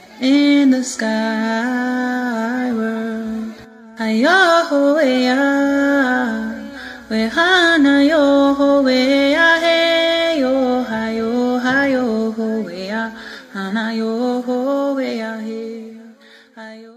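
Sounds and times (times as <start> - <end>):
person singing chant-like song: 0.0 - 16.9.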